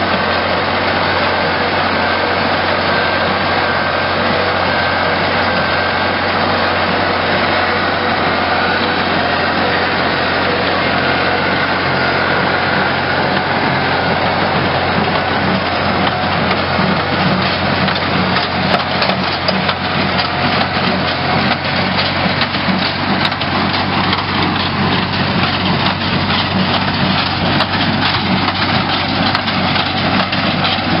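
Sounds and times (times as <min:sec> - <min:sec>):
hay baler clattering: 0:00.0 - 0:31.0
tractor engine running: 0:00.0 - 0:31.0.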